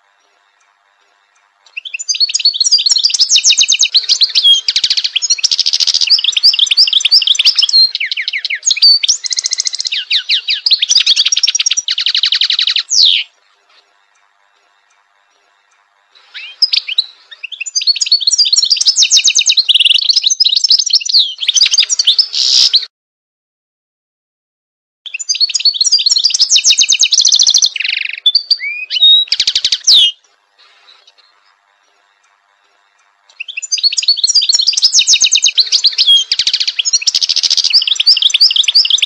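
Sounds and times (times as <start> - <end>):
goldfinch twittering song: 0.1 - 13.4, 14.1 - 22.9, 25.1 - 39.0.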